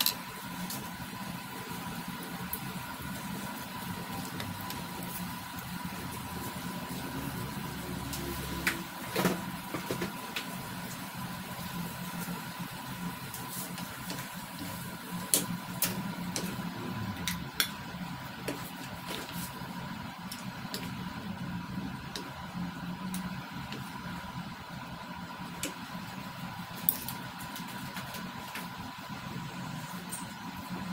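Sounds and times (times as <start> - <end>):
spatula stirring in wok: 0.0 - 28.8
steady hum: 0.0 - 30.9.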